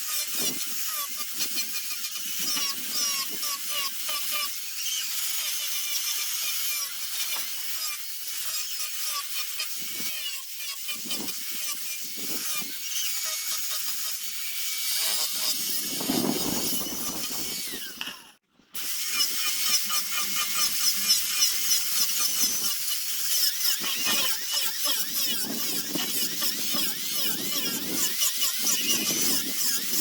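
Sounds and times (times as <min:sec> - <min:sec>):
power sander grinding wood: 0:00.0 - 0:30.0.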